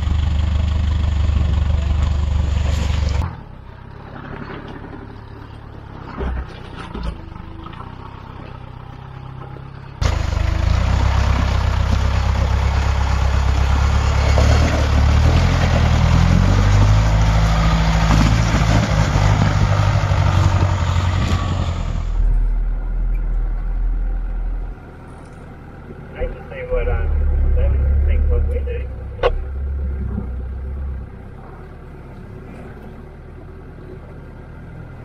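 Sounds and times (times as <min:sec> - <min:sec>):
engine working under load: 0:00.0 - 0:35.0.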